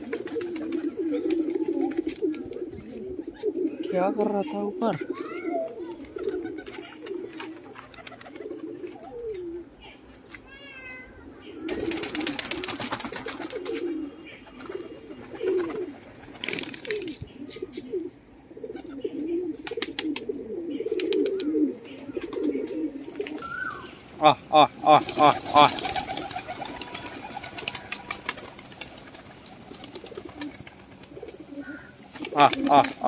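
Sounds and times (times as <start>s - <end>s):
pigeons cooing: 0.0s - 10.1s, 11.1s - 33.0s.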